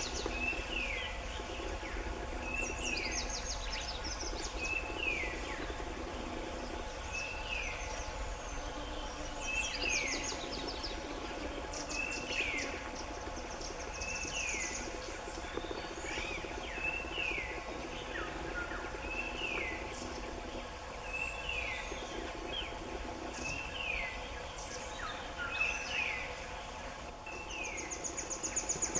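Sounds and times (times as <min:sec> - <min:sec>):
birds chirping: 0:00.0 - 0:28.9
insect drone: 0:00.0 - 0:28.9.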